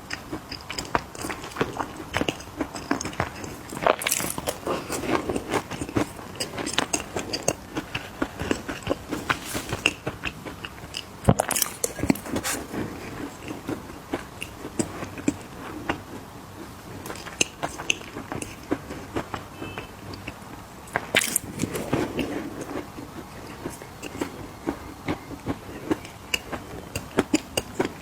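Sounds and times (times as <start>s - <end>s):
cookies crunching being chewed: 0.0s - 28.0s.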